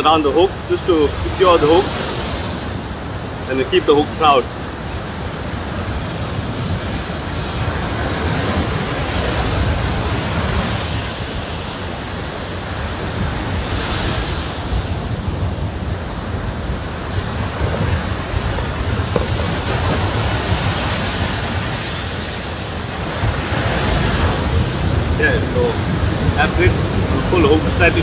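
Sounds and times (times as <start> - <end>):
ocean surf breaking on beach: 0.0 - 28.0
wind rumble on microphone: 0.0 - 28.0.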